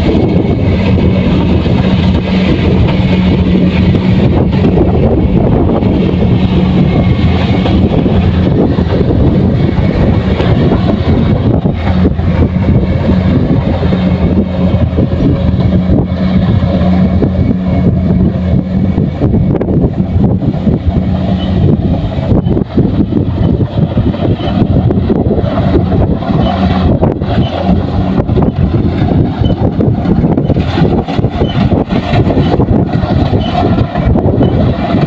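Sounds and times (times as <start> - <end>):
harvester engine drone: 0.0 - 35.0.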